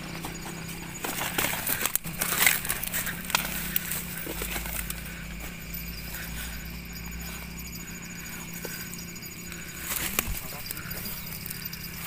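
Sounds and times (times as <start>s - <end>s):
leaves and brush rustling: 0.0s - 12.0s.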